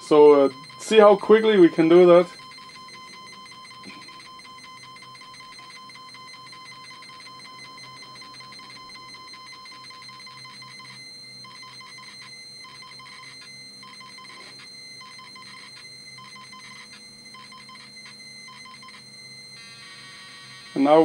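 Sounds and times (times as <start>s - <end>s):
high-pitched cassette data buzz: 0.0s - 21.0s.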